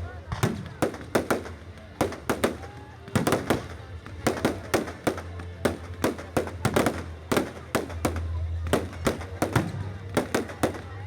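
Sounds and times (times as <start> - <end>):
fireworks bangs: 0.2 - 11.0
music playing: 0.8 - 11.0.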